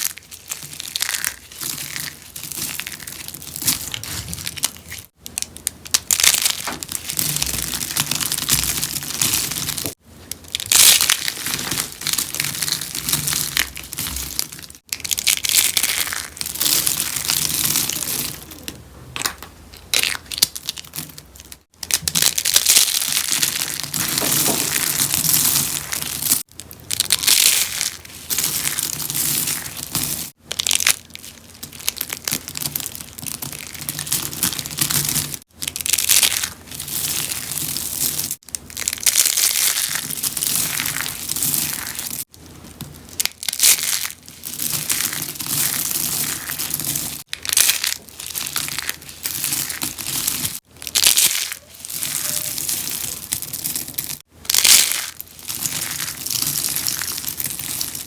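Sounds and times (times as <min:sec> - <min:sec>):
soap flowers crunching: 0:00.0 - 0:58.0.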